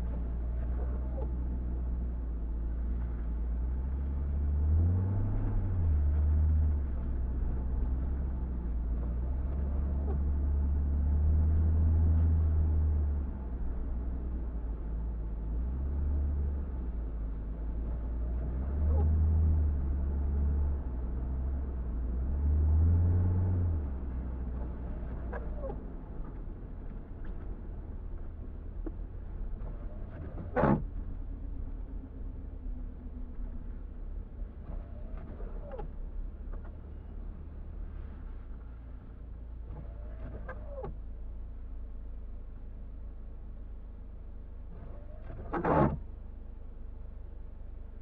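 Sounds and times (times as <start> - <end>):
car engine rumble: 0.0 - 48.0
road noise: 0.0 - 48.0.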